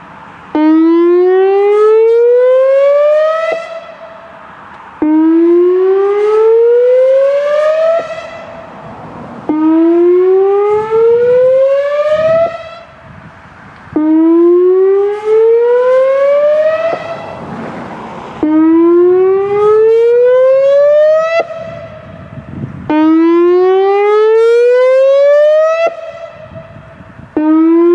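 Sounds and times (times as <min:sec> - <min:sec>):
electronic siren whooping: 0:00.6 - 0:04.3, 0:05.0 - 0:27.9.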